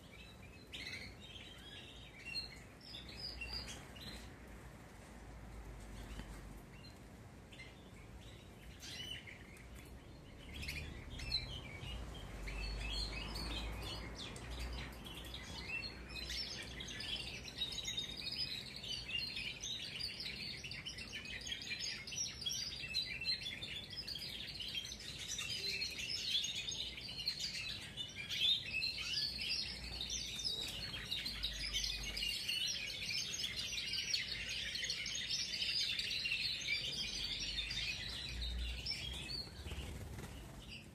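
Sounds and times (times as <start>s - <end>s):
canaries chirping and trilling: 0.0s - 40.9s.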